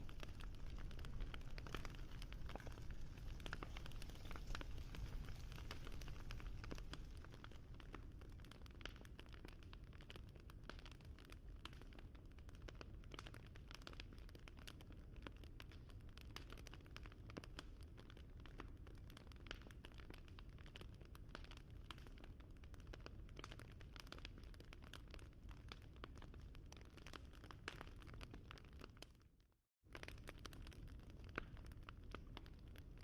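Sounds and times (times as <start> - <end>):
wood fire crackling: 0.0 - 29.1, 29.9 - 33.0.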